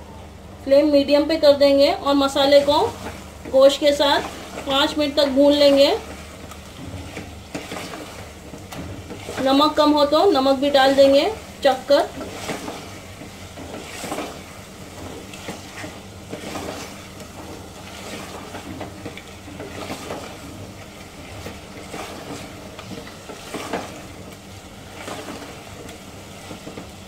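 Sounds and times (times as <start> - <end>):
meat sizzling in pot: 1.8 - 27.0
spatula scraping pot: 2.2 - 27.0.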